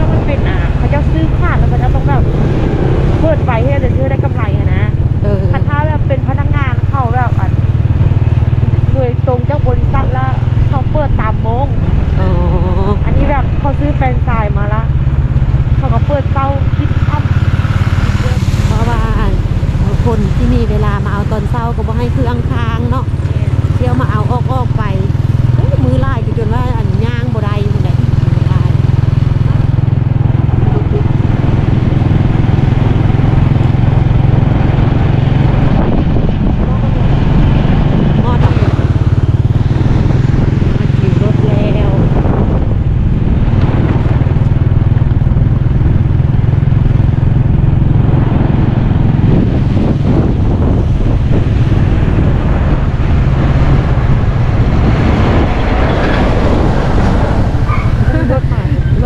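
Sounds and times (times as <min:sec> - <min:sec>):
motor scooter engine running: 0:00.0 - 0:59.0
wind buffeting microphone: 0:00.0 - 0:59.0.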